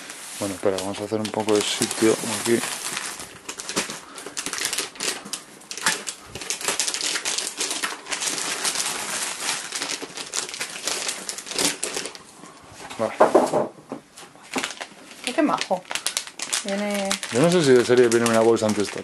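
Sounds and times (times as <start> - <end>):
plastic packaging crinkling: 0.0 - 12.5, 14.4 - 19.0.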